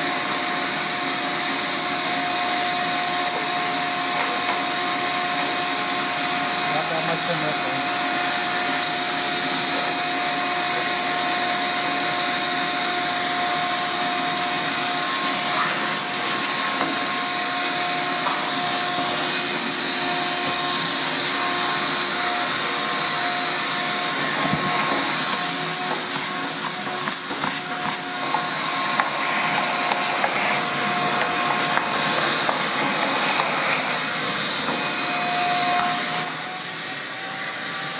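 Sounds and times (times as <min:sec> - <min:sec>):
vacuum cleaner whining: 0:00.0 - 0:37.9.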